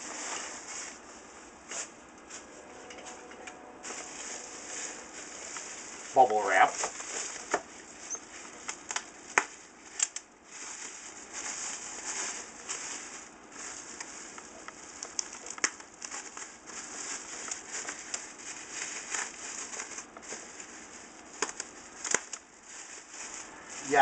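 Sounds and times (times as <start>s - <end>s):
bubble wrap crinkling: 0.0s - 24.0s
sharp crackles: 3.9s - 24.0s.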